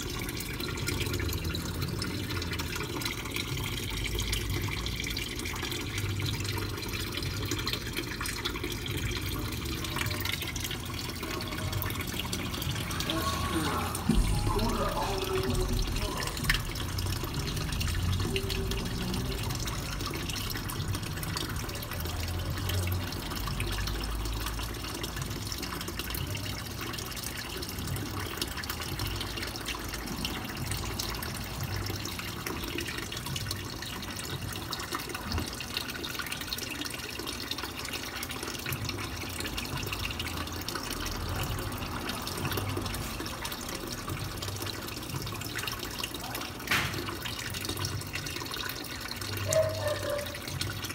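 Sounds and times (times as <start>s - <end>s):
running water splashing: 0.0s - 50.9s.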